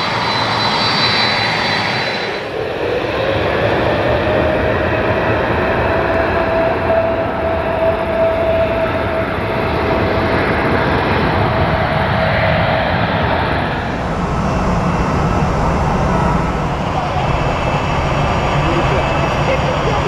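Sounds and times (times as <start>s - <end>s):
jet engines rumbling: 0.0s - 20.0s
thin engine whine: 0.0s - 20.0s.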